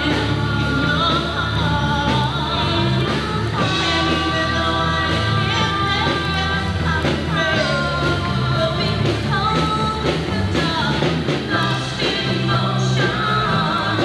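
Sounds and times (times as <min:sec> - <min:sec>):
drums: 0:00.0 - 0:14.0
electric guitars: 0:00.0 - 0:14.0
keyboard: 0:00.0 - 0:14.0
lead singer singing: 0:00.0 - 0:14.0.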